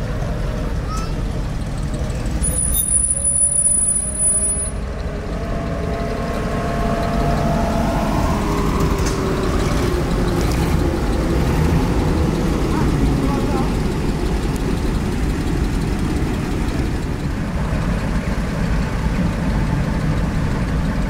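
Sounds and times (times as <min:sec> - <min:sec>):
military vehicle engines rumbling: 0:00.0 - 0:21.0.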